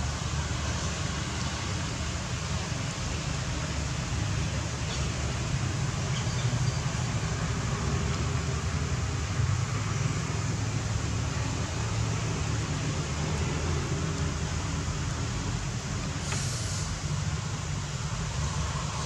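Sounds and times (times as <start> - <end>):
even hiss: 0.0 - 19.0.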